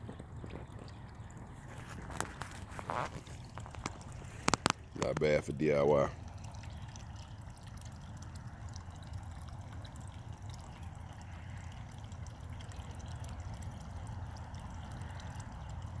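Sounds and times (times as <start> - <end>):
low steady rumble: 0.0 - 16.0
water splashing into pond: 0.0 - 16.0.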